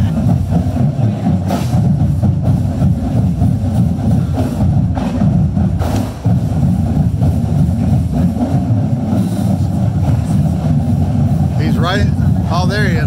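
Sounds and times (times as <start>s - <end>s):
marching band brass and drums: 0.0s - 13.0s.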